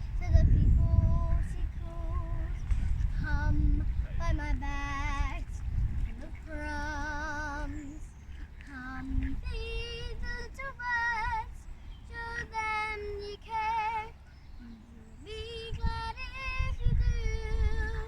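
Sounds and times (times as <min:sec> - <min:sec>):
girl singing a slow ballad: 0:00.0 - 0:18.0.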